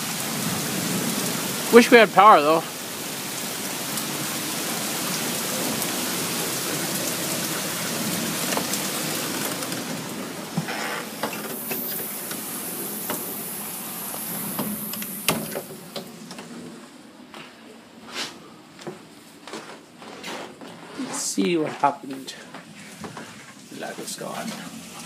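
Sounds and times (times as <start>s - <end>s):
heavy rain downpour: 0.0s - 17.3s, 21.0s - 25.0s.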